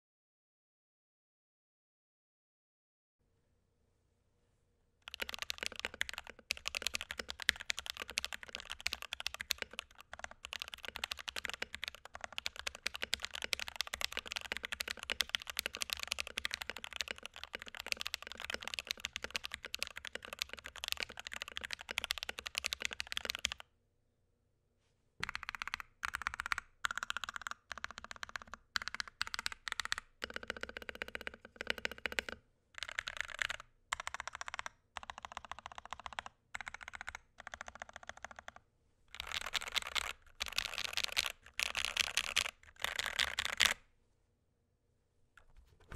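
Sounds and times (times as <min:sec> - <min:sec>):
mechanical keyboard typing: 0:05.0 - 0:23.6, 0:25.2 - 0:43.8.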